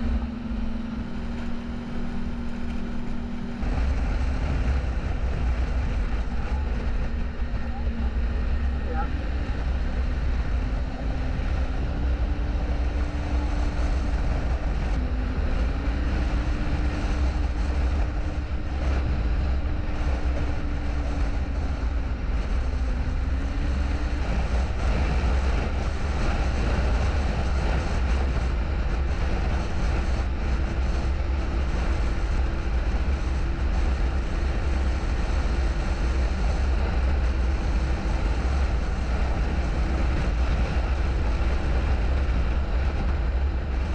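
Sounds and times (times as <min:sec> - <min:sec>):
heavy low rumble: 0:00.0 - 0:43.9
snowmobile engine running: 0:00.0 - 0:43.9.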